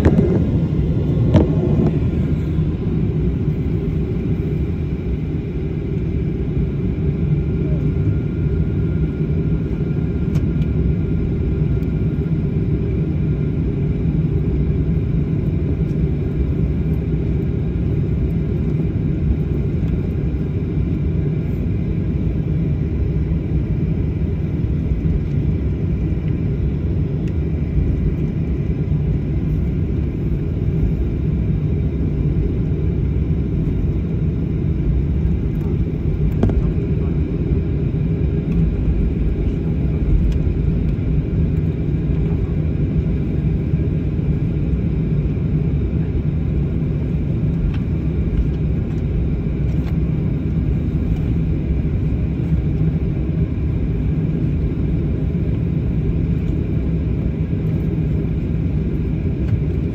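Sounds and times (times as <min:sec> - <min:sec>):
high engine whine: 0:00.0 - 0:59.9
jet engines low rumble: 0:00.0 - 0:59.9.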